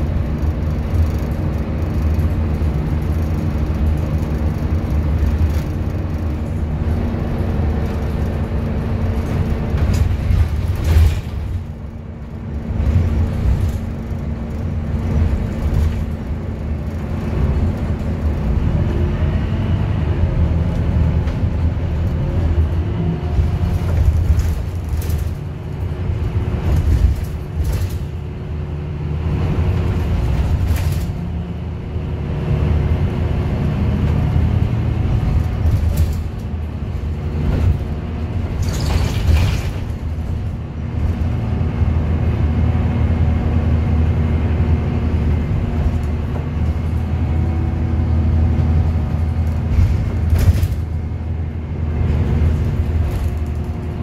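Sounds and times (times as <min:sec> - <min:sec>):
bus body knocks and rattles: 0:00.0 - 0:18.9, 0:20.7 - 0:31.6, 0:33.8 - 0:44.1, 0:44.8 - 0:54.0
bus rumble: 0:00.0 - 0:54.0.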